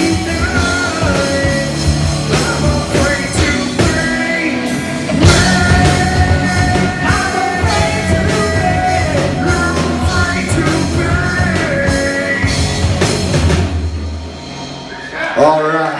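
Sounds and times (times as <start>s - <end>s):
person singing long notes: 0.0s - 12.9s
rock band playing: 0.0s - 15.9s.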